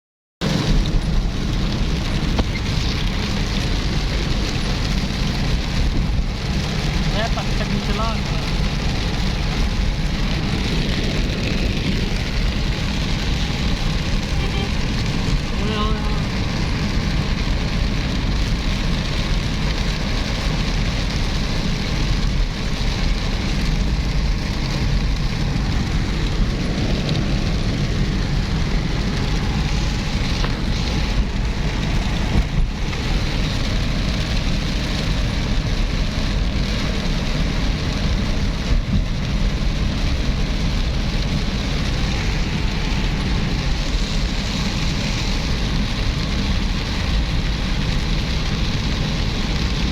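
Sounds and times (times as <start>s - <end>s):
heavy low rumble: 0.4s - 49.9s
steady rain falling: 0.4s - 49.9s.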